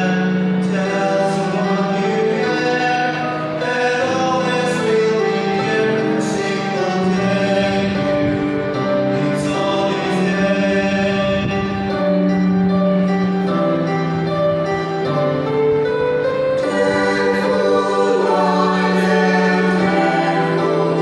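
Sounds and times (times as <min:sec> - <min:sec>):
vocal quartet singing in harmony: 0:00.0 - 0:14.0, 0:15.2 - 0:21.0.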